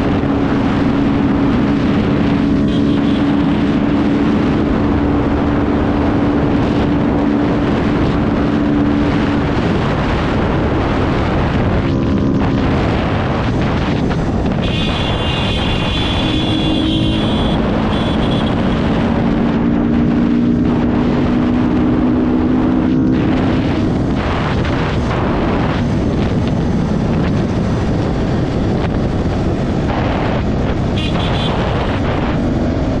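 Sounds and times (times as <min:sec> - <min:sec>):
motorcycle engine: 0:00.0 - 0:33.0
wind buffeting microphone: 0:00.0 - 0:33.0.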